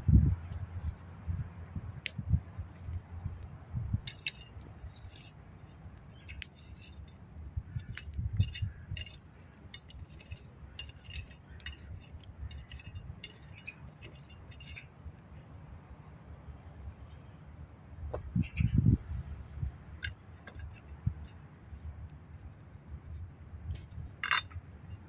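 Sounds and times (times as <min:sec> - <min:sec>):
low uneven rumble: 0:00.0 - 0:25.0.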